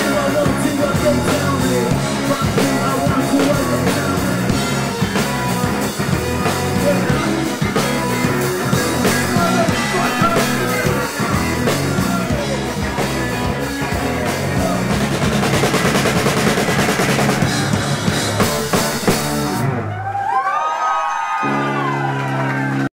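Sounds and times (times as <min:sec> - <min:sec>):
electric guitar and bass: 0:00.0 - 0:20.3, 0:21.4 - 0:22.9
drum kit hit hard: 0:01.0 - 0:19.9.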